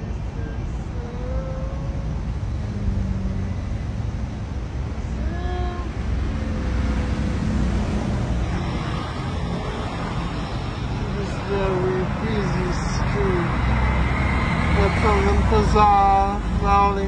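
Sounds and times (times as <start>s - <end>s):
low rumble of street traffic: 0.0s - 17.0s.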